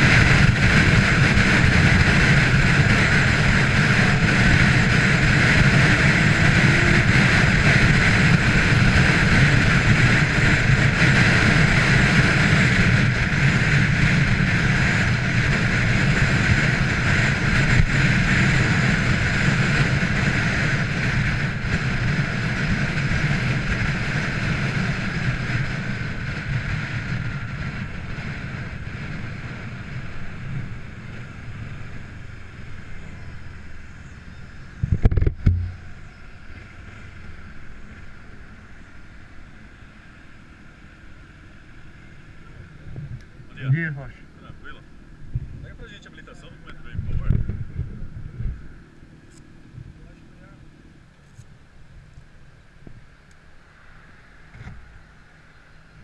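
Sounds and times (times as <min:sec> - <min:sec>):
motorcycle engine: 0:00.0 - 0:56.0
wind rush on microphone: 0:00.0 - 0:56.0.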